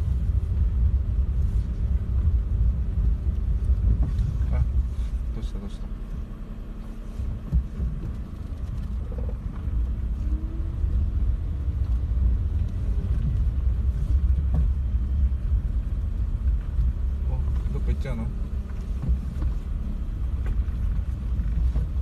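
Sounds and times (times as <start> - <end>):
car engine rumble from inside: 0.0 - 22.0.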